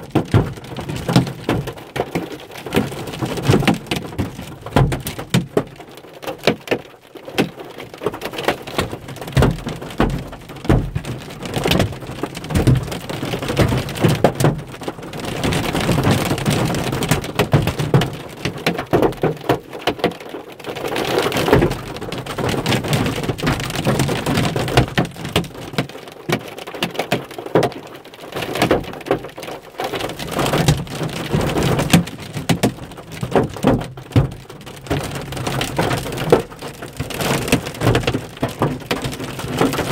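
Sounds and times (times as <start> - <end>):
hail pelting car roof: 0.0 - 39.9.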